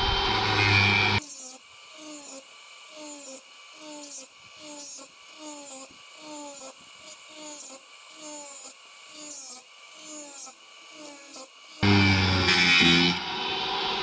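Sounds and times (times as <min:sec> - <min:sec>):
angle grinder cutting copper: 0:00.0 - 0:14.0.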